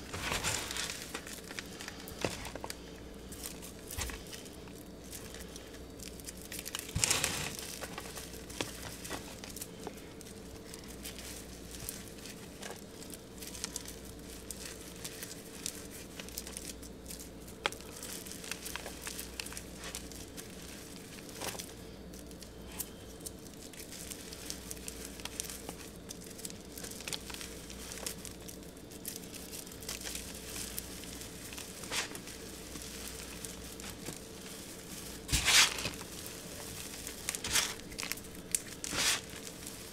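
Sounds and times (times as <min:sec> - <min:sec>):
hands crumbling dry material: 0:00.0 - 0:39.9.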